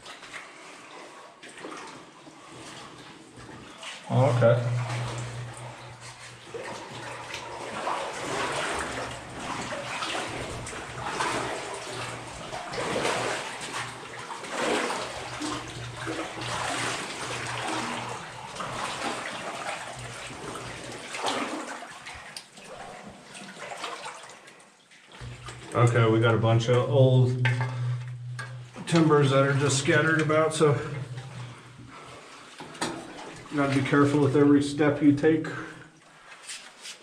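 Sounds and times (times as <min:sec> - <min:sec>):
water sloshing around wading legs: 0:00.0 - 0:26.1, 0:27.3 - 0:34.5, 0:35.8 - 0:37.0.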